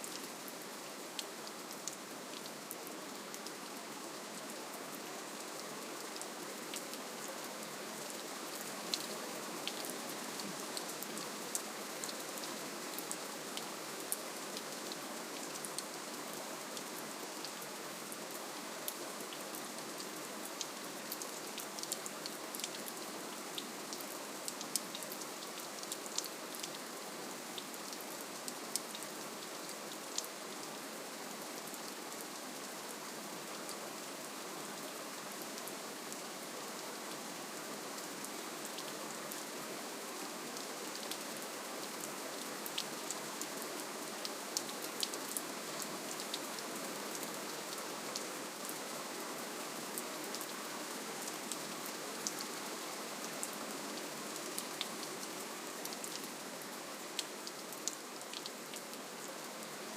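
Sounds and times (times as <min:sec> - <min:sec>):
gentle rainfall hiss: 0:00.0 - 0:59.9.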